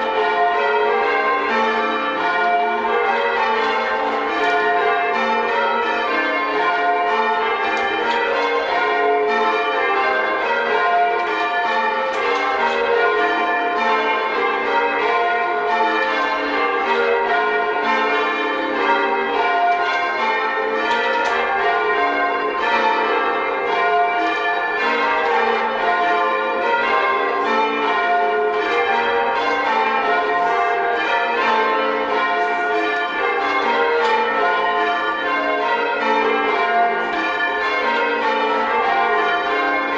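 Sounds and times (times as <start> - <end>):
church bells ringing in changes: 0.0 - 39.9.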